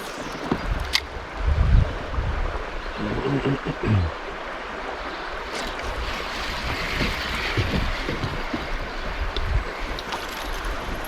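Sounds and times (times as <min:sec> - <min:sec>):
water washing around kayak: 0:00.0 - 0:11.0
wind buffeting microphone: 0:00.5 - 0:04.1, 0:05.8 - 0:11.0.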